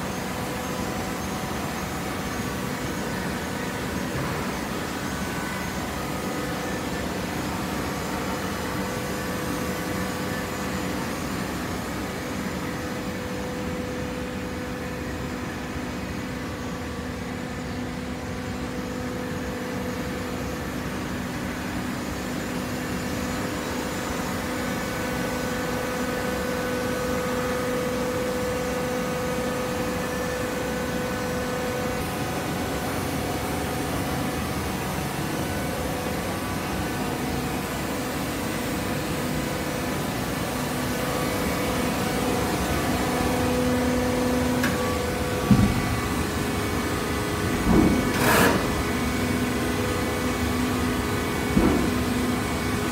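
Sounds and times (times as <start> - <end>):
baler machine hum: 0.0 - 52.9.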